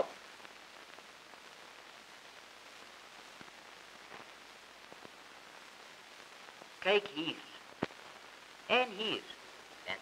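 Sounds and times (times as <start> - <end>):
faint clicks and crackles: 0.0 - 8.7
faint steady hiss: 0.0 - 10.0.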